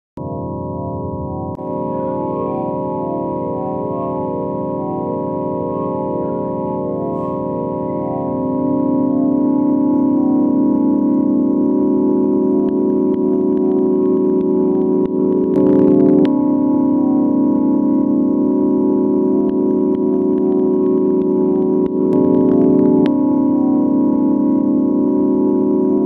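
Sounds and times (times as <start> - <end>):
electronic organ-like drone: 0.2 - 26.0.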